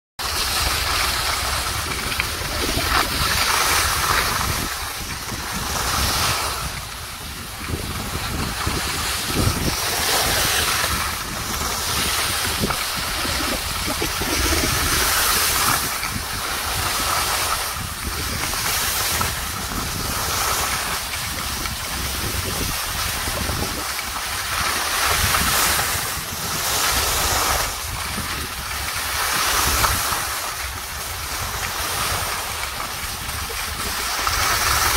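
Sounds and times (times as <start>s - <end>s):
skis hissing over snow: 0.2s - 34.9s
wind buffeting microphone: 0.2s - 34.9s.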